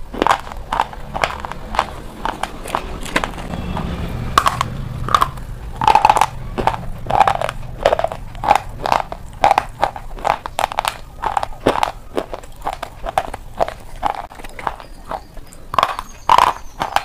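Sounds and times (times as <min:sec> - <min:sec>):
crunching and chewing: 0:00.0 - 0:17.0.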